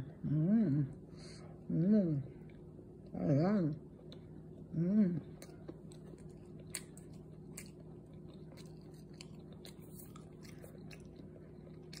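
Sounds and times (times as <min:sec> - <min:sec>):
low steady hum: 0:00.0 - 0:12.0
person chewing cake: 0:00.9 - 0:12.0.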